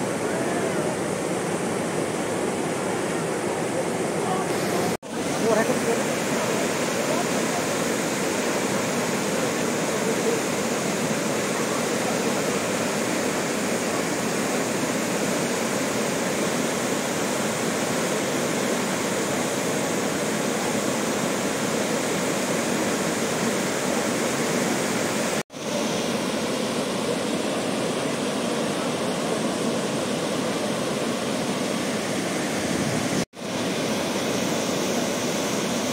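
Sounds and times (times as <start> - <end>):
water rushing down a cascade: 0.0 - 35.9.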